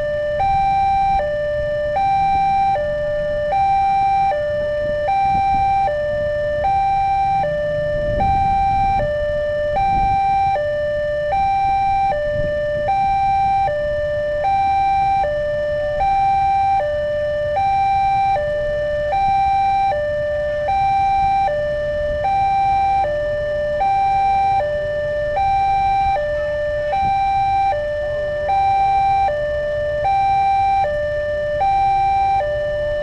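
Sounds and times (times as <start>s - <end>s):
two-tone electronic warning alarm: 0.0s - 33.0s.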